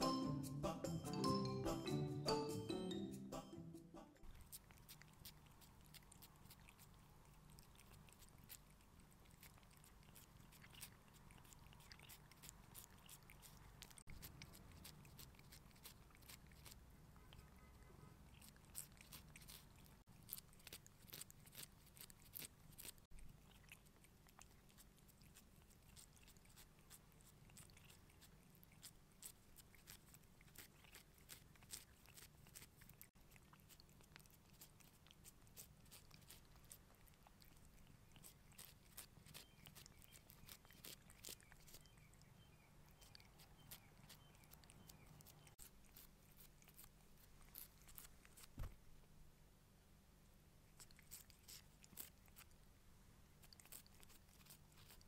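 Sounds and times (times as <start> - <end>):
cat licking: 4.2 - 48.8, 50.6 - 52.7, 53.3 - 55.0.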